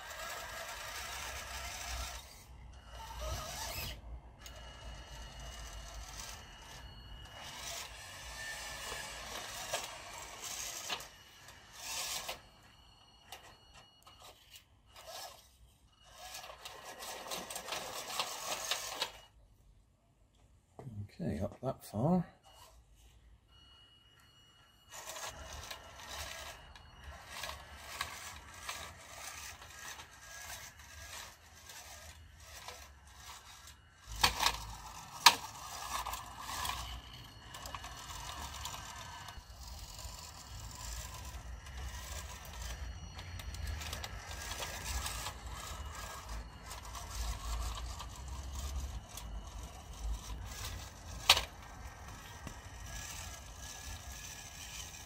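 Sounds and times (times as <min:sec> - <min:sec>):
electric motor and gearbox whine: 0:00.0 - 0:19.6, 0:22.0 - 0:55.0.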